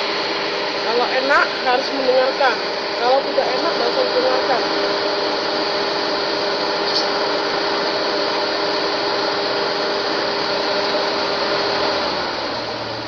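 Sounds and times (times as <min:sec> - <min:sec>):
air-conditioner blower whirring: 0:00.0 - 0:13.0
steady hum: 0:00.0 - 0:13.0.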